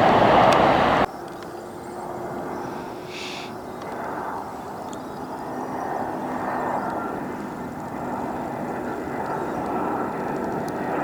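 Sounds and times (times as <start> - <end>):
jet airliner engines passing: 0.0 - 11.0.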